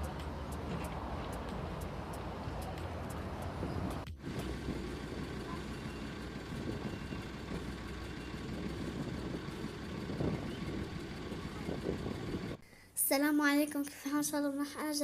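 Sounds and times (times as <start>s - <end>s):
engine running: 0.0s - 12.6s.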